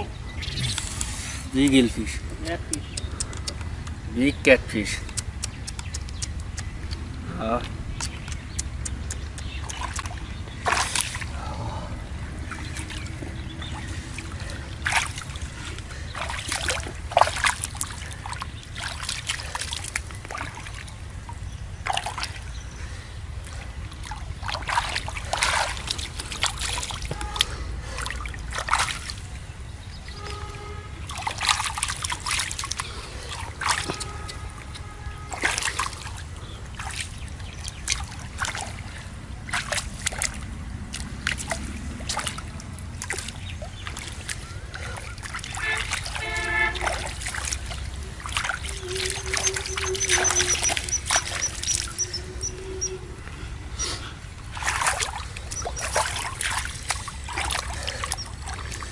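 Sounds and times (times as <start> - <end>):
steady low rumble: 0.0 - 46.2, 46.8 - 58.9
water splashing and sloshing: 0.0 - 58.9.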